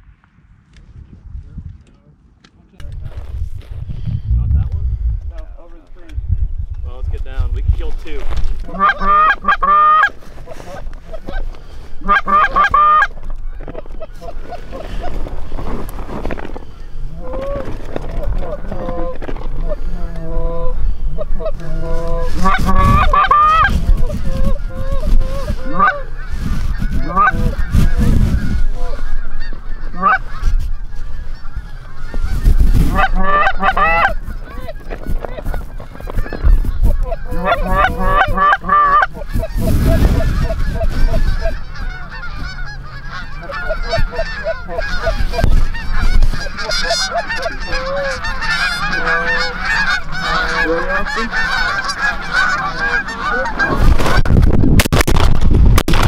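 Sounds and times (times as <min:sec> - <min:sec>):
geese honking: 0:08.5 - 0:54.4.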